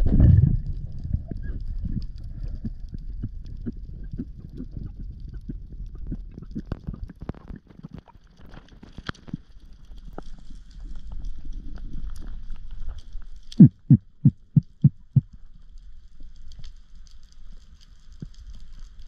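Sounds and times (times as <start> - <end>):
low underwater rumble: 0.0 - 8.2, 9.2 - 16.9
underwater clicks and crackles: 0.0 - 19.0.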